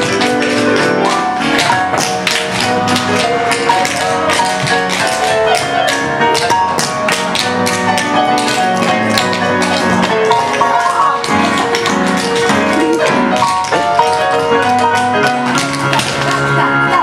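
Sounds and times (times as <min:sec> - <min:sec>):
tap-dance taps: 0:00.0 - 0:16.6
recorded music: 0:00.0 - 0:17.0.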